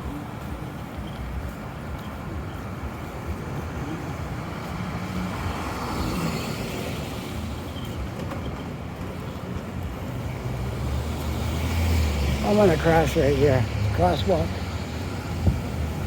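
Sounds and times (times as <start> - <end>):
city street traffic: 0.0 - 16.0
vehicle passing: 0.0 - 16.0.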